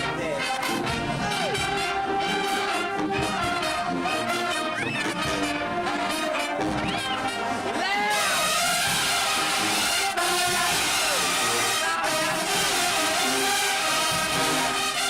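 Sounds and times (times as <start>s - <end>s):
marching band brass playing: 0.0s - 15.0s.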